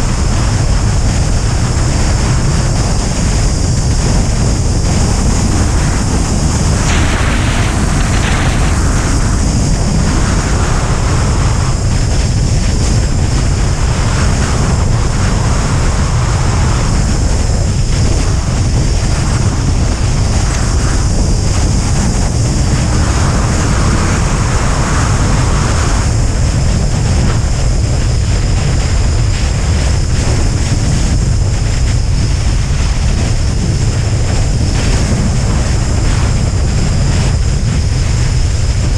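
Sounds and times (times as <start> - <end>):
deep rumble: 0.0 - 38.9
hiss: 0.0 - 38.9
wind rushing over microphone: 0.0 - 38.9.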